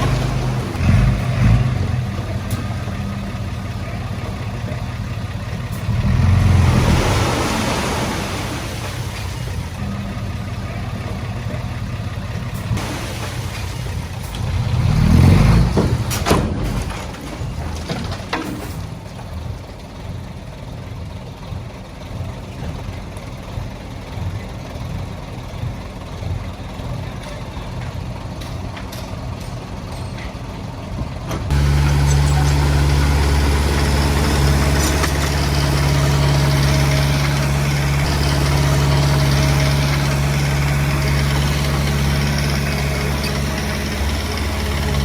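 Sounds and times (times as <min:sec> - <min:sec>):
heavy machinery diesel engine: 0:00.0 - 0:45.0.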